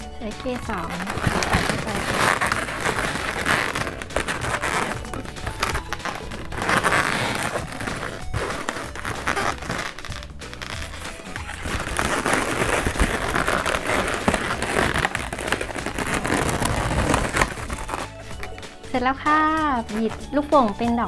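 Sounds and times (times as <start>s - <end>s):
background music: 0.0s - 21.0s
balloons squeaking and crinkling: 0.0s - 21.0s.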